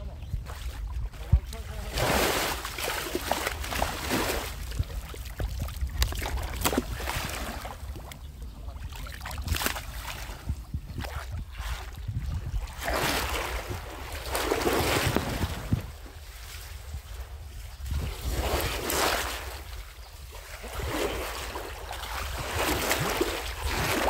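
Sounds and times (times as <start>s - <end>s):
water sloshing and splashing: 0.0s - 24.0s
wind rumbling on microphone: 0.0s - 24.0s.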